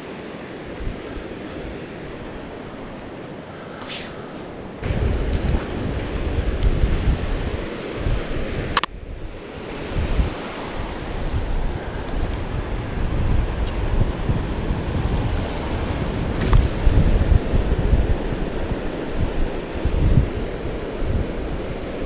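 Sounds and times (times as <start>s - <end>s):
waves breaking on beach: 0.0s - 22.0s
wind buffeting microphone: 0.0s - 22.0s.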